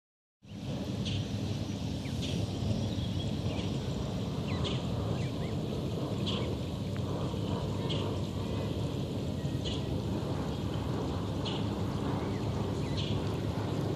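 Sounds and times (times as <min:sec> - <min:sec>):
wind rumble on microphone: 0:00.4 - 0:13.9.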